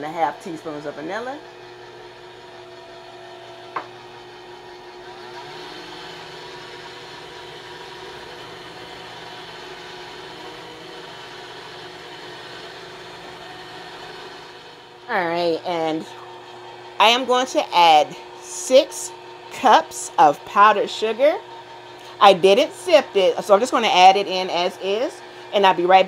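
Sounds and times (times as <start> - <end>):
stand mixer running: 0.0 - 26.0.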